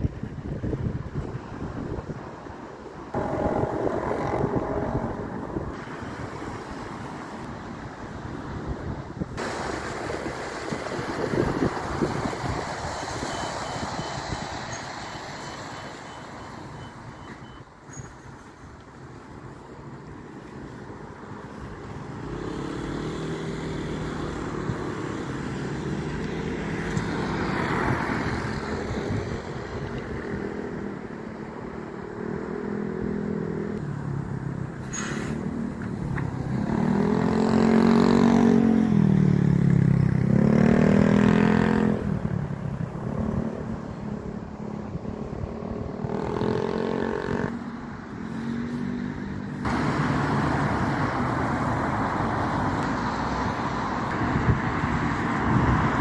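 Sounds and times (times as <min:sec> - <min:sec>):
vehicle engines passing: 0:00.0 - 0:56.0
tyres swishing on wet road: 0:05.7 - 0:56.0.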